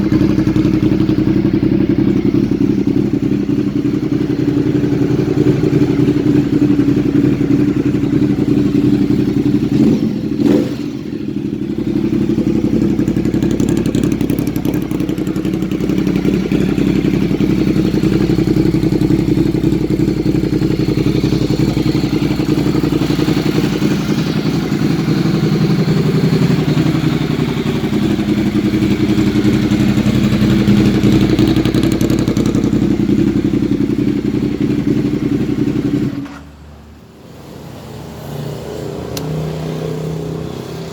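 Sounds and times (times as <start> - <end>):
motorcycle engine running: 0.0 - 36.4, 37.0 - 40.9.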